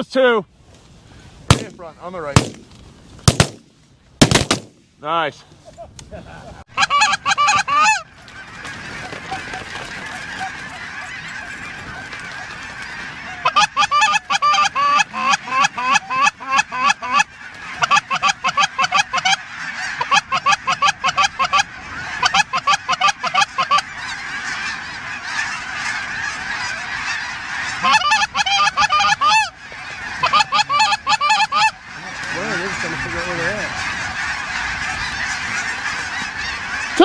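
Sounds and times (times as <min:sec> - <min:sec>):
geese honking: 0:06.6 - 0:37.0
flock calling din: 0:06.8 - 0:37.0.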